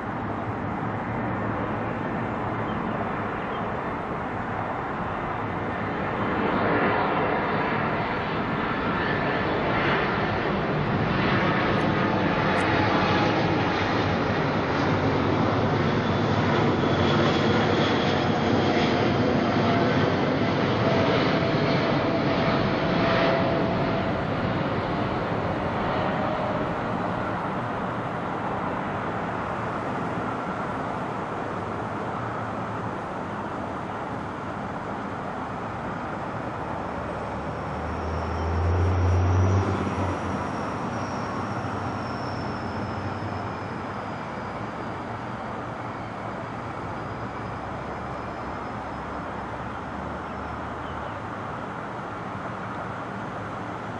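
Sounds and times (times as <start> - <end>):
jet engine noise: 0.0 - 53.9.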